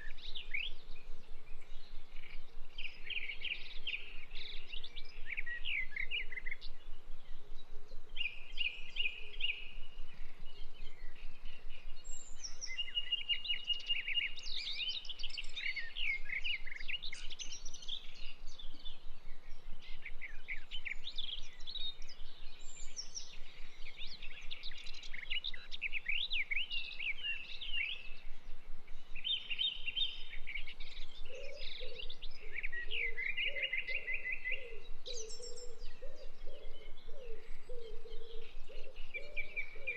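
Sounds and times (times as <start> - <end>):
small birds chirping: 0.0 - 39.9
steady low hiss: 0.0 - 39.9.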